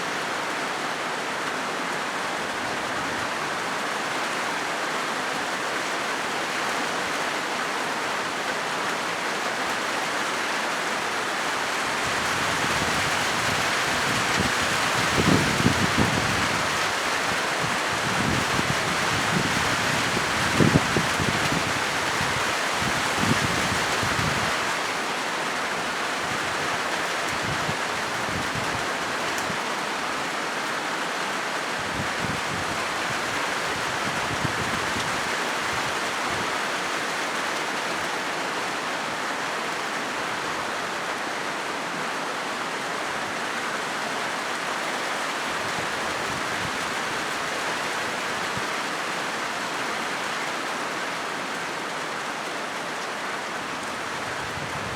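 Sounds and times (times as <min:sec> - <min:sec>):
rain drumming on a metal roof: 0:00.0 - 0:54.9.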